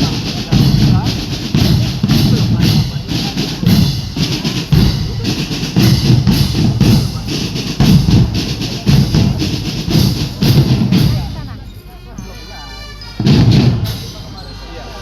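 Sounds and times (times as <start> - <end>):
snare drums beating: 0.0 - 11.6, 13.2 - 14.3
bass drums beating: 0.0 - 12.1, 13.2 - 14.4.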